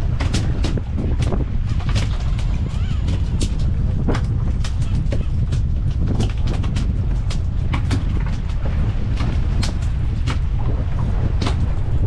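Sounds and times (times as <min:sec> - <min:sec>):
boat engine rumble: 0:00.0 - 0:12.0
wind: 0:00.0 - 0:12.0
sharp knocks and clicks: 0:00.1 - 0:11.7.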